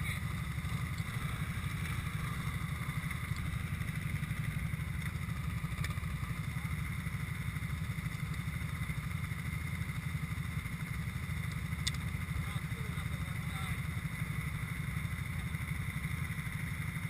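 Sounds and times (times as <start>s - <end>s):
atv engine running steadily: 0.0s - 17.0s.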